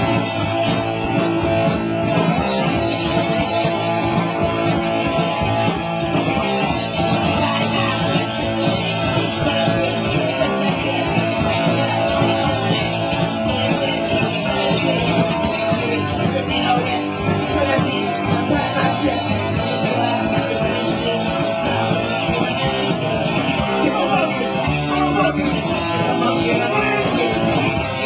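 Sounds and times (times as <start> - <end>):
punk rock band playing: 0.0 - 28.0.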